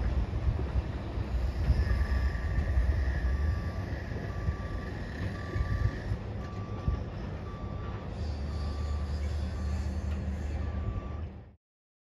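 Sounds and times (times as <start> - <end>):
vehicle backup alarm beeping: 1.8 - 11.6.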